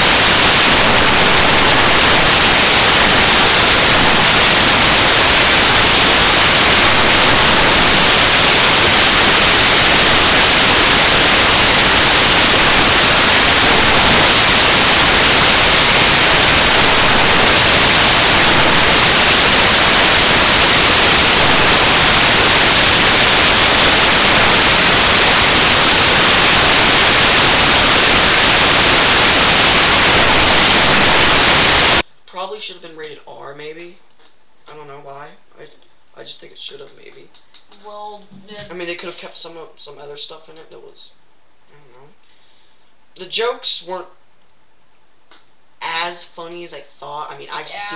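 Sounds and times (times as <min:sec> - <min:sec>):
static hiss: 0:00.0 - 0:47.9.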